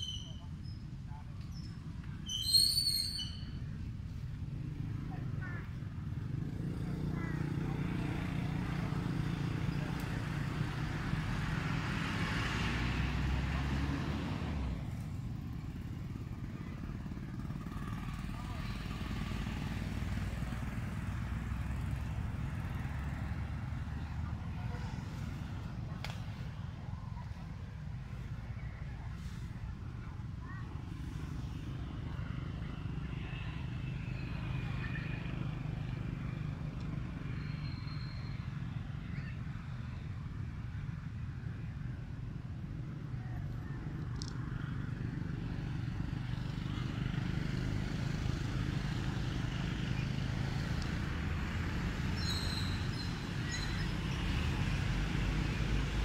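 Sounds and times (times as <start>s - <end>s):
low outdoor rumble: 0.0s - 56.0s
vehicle engine passing: 4.1s - 37.7s, 41.8s - 56.0s.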